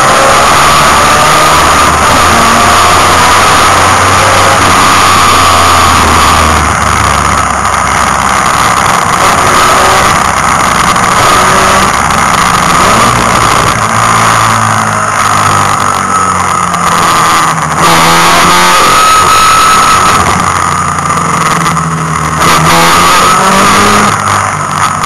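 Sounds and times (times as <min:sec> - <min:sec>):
race car engine running hard: 0:00.0 - 0:25.0
road and wind noise: 0:00.0 - 0:25.0.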